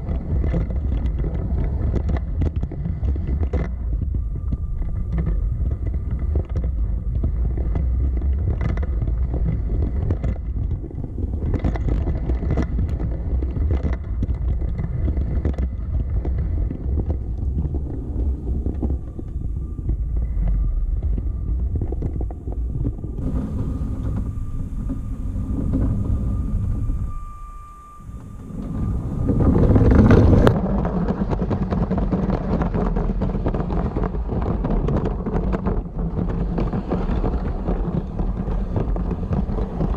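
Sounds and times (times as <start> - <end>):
faint motor whine: 0.0 - 39.9
toy train rumble: 0.0 - 39.9.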